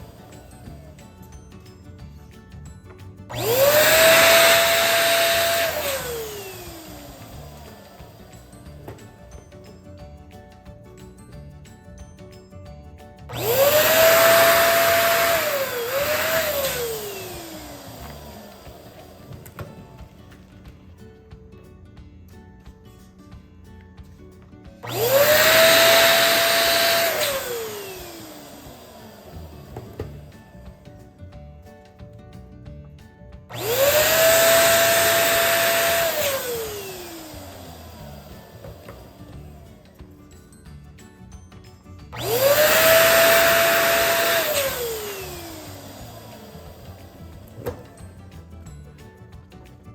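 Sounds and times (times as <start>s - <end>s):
electric balloon pump whining: 0.0s - 12.0s, 13.0s - 20.9s, 24.7s - 32.0s, 33.4s - 49.7s.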